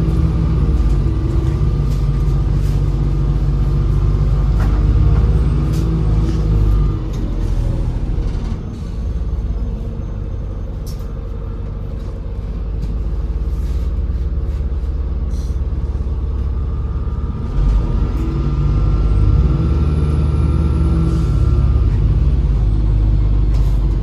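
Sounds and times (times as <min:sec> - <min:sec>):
bus engine rumble: 0:00.0 - 0:24.0.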